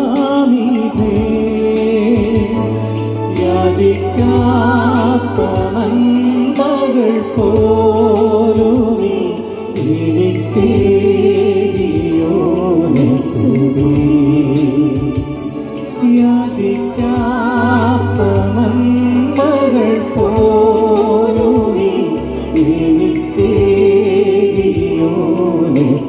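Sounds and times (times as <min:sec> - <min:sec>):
electronic keyboard accompaniment: 0:00.0 - 0:26.0
man singing: 0:00.0 - 0:26.0.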